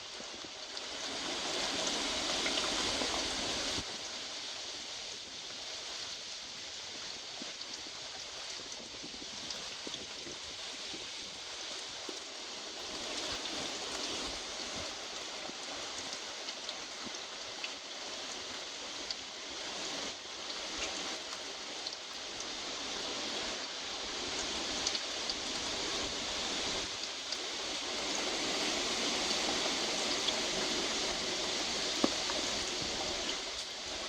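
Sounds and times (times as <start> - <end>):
heavy rain hiss: 0.0 - 34.0
raindrops ticking on surfaces: 0.0 - 34.0.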